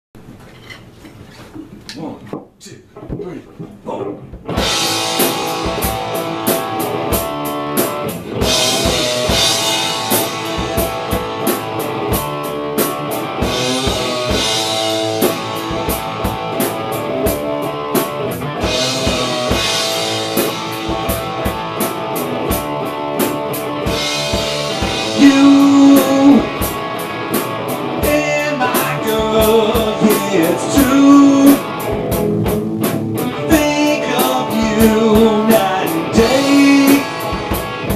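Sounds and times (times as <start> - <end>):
drum kit beat: 2.4 - 37.9
electric guitar: 3.0 - 37.9.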